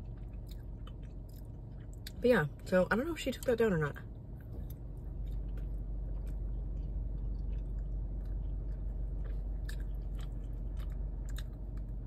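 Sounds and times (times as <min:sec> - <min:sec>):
person chewing close-up: 0:00.0 - 0:02.7, 0:04.1 - 0:12.0
steady low hum: 0:00.0 - 0:12.0.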